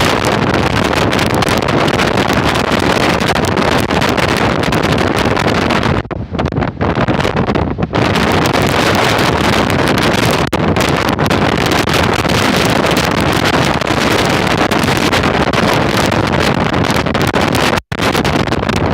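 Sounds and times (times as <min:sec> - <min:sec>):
storm wind on microphone: 0:00.0 - 0:18.9.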